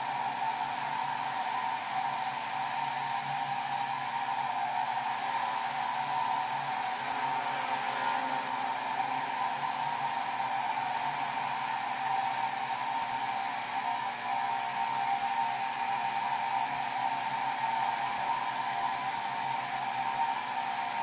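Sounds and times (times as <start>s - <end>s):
quadcopter whining and buzzing: 0.0s - 21.0s.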